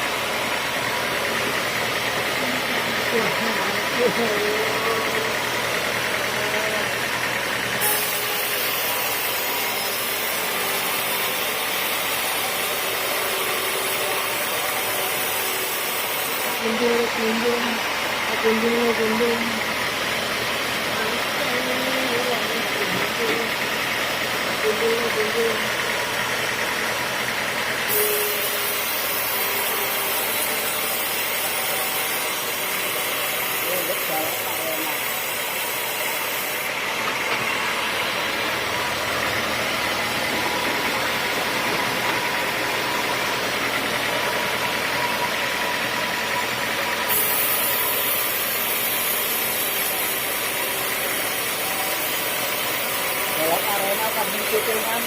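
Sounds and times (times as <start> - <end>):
saw cutting wood: 0.0 - 55.0
sawmill machinery running: 0.0 - 55.0.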